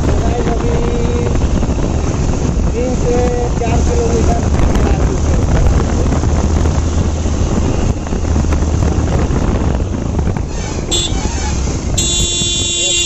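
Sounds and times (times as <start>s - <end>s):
low motorcycle rumble: 0.0s - 13.0s
wind rushing over microphone: 0.0s - 13.0s.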